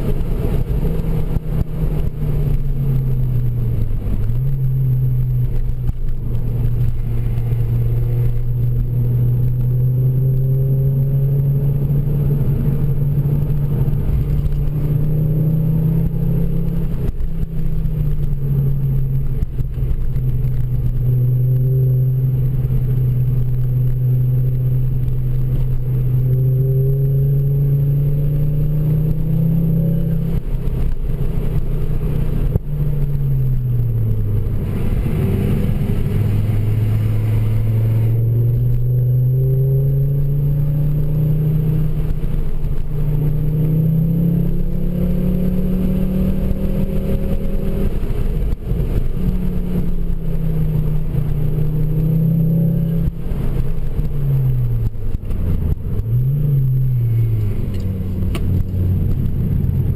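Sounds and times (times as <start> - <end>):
car engine revving from cabin: 0.0 - 59.9.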